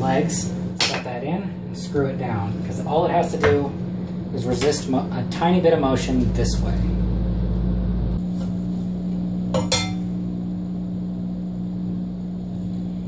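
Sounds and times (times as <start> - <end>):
low hum: 1.4 - 13.0.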